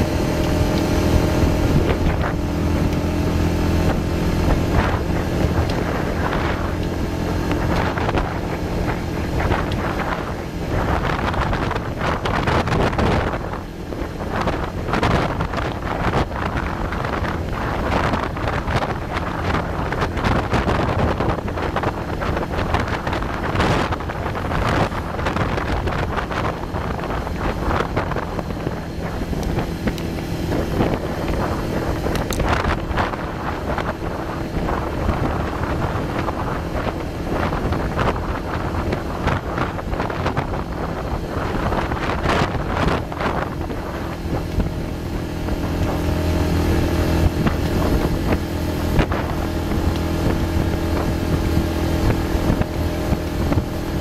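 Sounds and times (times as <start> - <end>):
motorcycle engine humming: 0.0 - 54.0
wind buffeting microphone: 0.0 - 54.0.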